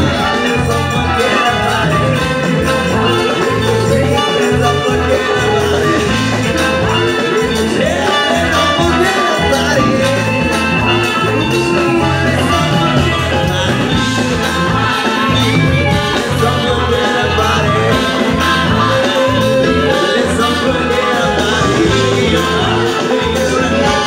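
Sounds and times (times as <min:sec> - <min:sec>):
congas: 0:00.0 - 0:24.0
live latin band: 0:00.0 - 0:24.0
women singing: 0:00.0 - 0:24.0.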